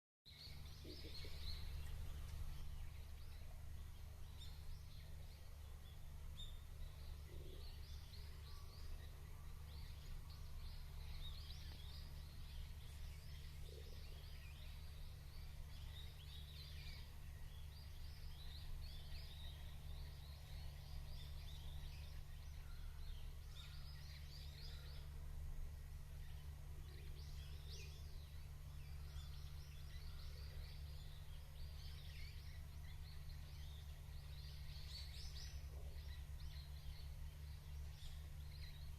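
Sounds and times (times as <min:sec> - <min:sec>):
small birds chirping: 0:00.3 - 0:38.9.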